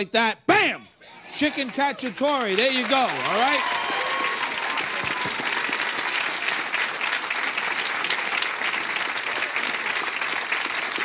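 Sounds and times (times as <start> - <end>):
audience applauding: 1.3 - 11.0.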